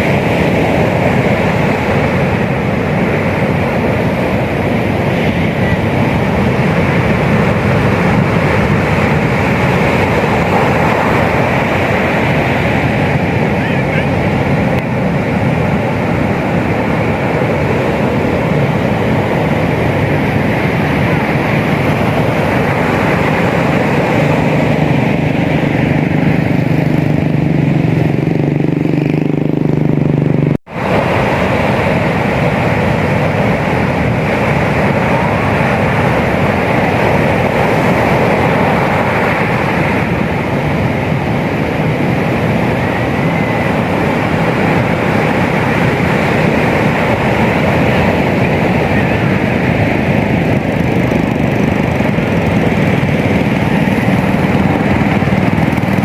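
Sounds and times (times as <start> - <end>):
heavy surf rushing: 0.0 - 56.0
low engine hum: 0.0 - 56.0.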